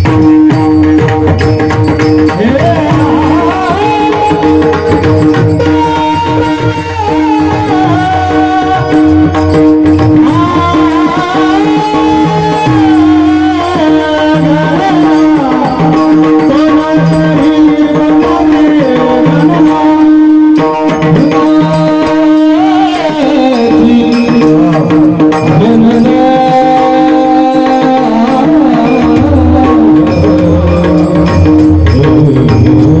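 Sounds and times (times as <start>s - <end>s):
drum beat: 0.0s - 33.0s
person singing wordless melody: 2.2s - 33.0s.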